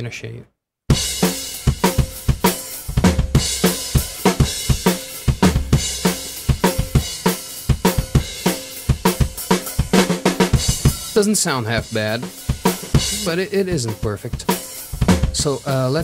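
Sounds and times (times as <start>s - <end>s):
cymbals: 0.9s - 16.0s
kick and snare drum loop: 0.9s - 16.0s.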